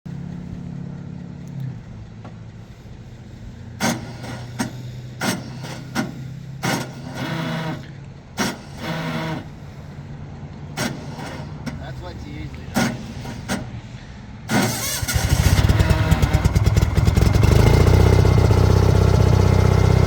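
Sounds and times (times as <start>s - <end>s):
skid steer engine running: 0.1s - 20.0s.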